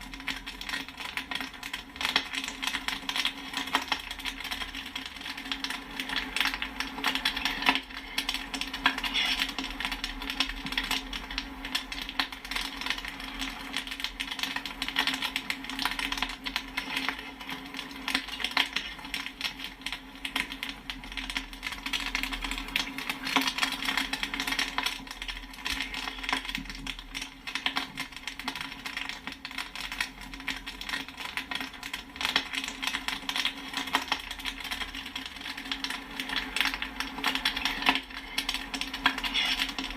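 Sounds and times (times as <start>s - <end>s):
popcorn popping: 0.0s - 39.9s.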